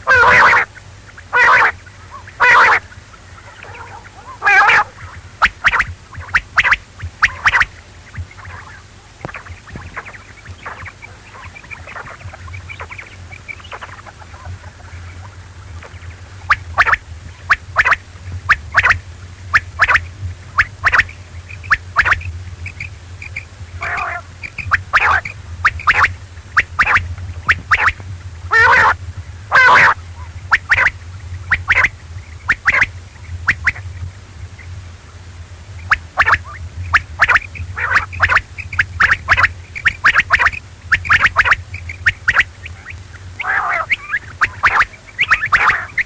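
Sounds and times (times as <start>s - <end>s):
quail calling: 0.0s - 34.8s, 35.8s - 46.0s
steady low hum: 0.0s - 46.0s.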